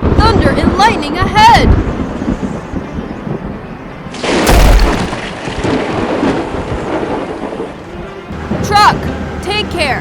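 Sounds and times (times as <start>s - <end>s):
thunderclap with rolling rumble: 0.0s - 8.8s.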